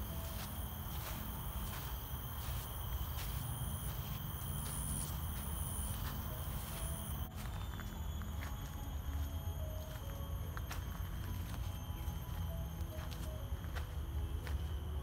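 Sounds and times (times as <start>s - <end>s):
footsteps through grass: 0.0s - 15.0s
high-pitched insect drone: 0.0s - 15.0s.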